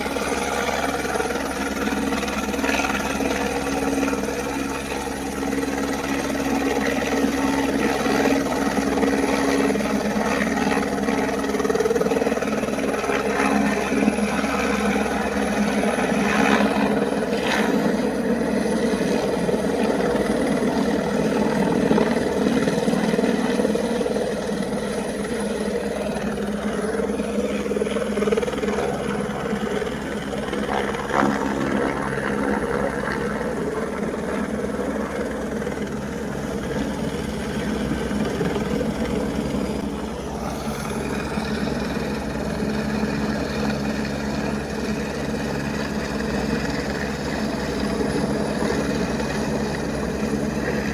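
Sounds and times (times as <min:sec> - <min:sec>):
helicopter engine whine: 0:00.0 - 0:50.9
helicopter rotor blades chopping: 0:00.0 - 0:50.9.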